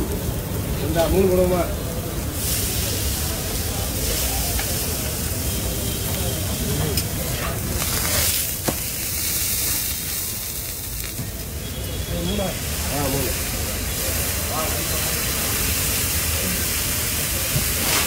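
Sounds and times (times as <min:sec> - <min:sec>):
food sizzling on a griddle: 0:00.0 - 0:18.0.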